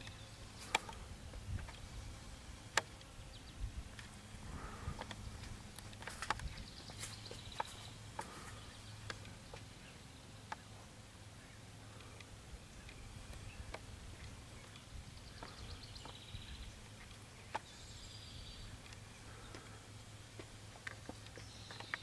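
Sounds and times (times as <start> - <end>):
bird chirps and trills: 0.0 - 22.0
low steady hum: 0.0 - 22.0.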